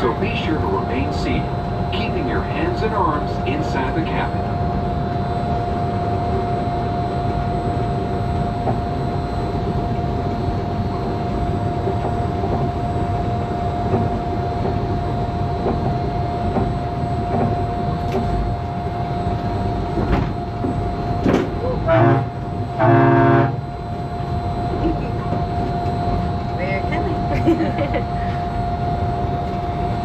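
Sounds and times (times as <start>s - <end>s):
high-pitched whine: 0.0s - 30.0s
monorail train rumble: 0.0s - 30.0s.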